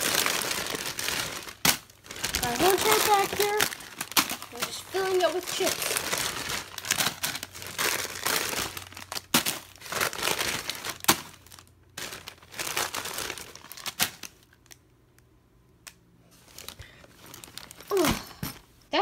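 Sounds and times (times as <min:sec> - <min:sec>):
chip bags crinkling: 0:00.0 - 0:14.9, 0:16.3 - 0:19.0.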